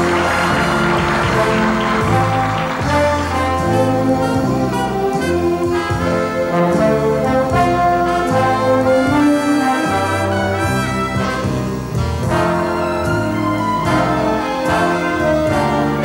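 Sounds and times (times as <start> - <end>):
dance band orchestra playing: 0.0 - 16.0
moving bass line: 0.0 - 16.0
trombone chords: 0.0 - 16.0.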